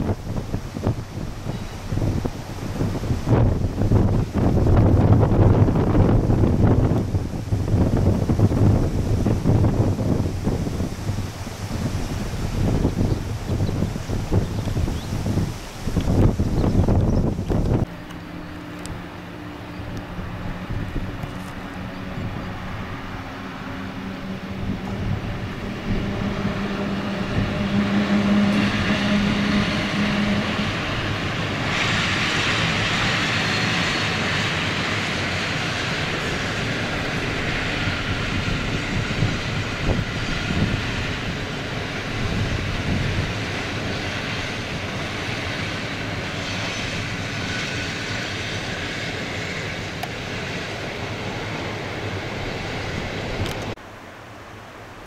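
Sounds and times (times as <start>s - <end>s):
train wheels rolling on rails: 0.0s - 53.8s.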